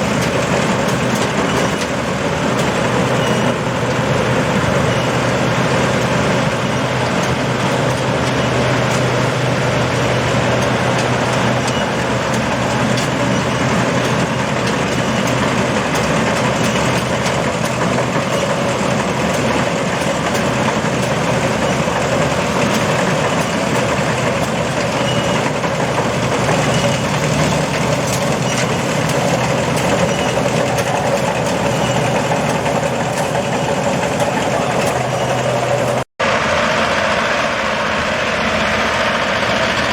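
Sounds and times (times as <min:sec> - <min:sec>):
combine harvester engine hum: 0:00.0 - 0:39.9
machinery noise: 0:00.0 - 0:39.9.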